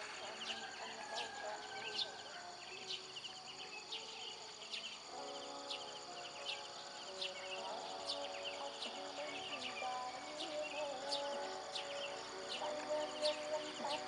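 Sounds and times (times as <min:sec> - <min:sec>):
faint distant melody: 0:00.0 - 0:14.0
high insect drone: 0:00.0 - 0:14.0.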